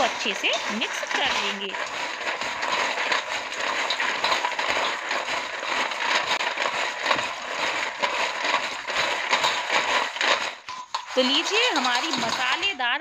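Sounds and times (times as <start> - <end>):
fried pasta rattling in metal bowl: 0.0 - 13.0.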